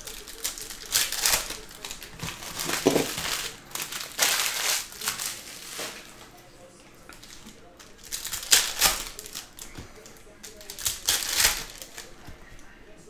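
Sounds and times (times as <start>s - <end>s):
foil wrapper crinkling: 0.0s - 12.8s.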